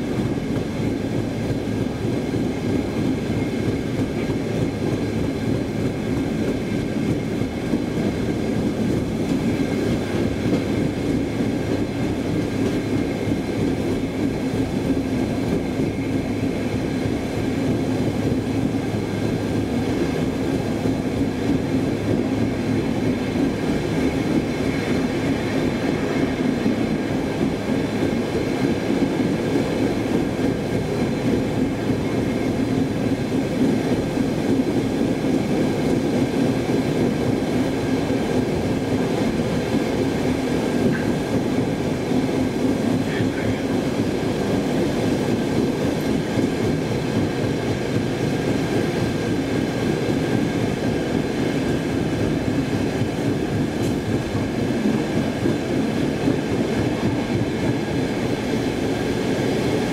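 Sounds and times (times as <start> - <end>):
electric train running rumble: 0.0 - 59.9.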